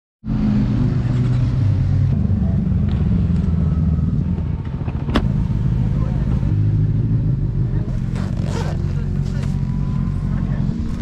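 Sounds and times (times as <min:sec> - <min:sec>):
motorcycle engine running: 0:00.3 - 0:11.0.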